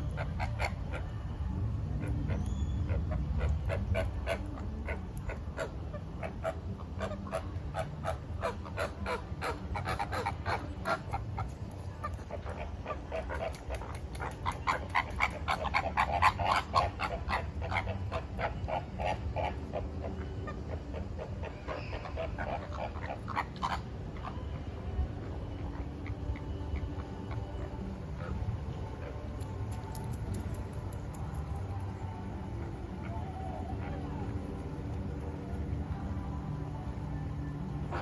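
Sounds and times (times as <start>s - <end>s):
flamingos honking: 0.0s - 38.0s
low background rumble: 0.0s - 38.0s.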